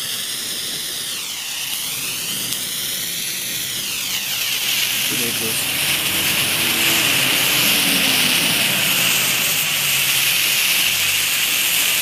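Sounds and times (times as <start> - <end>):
fireworks rushing hiss: 0.0 - 12.0.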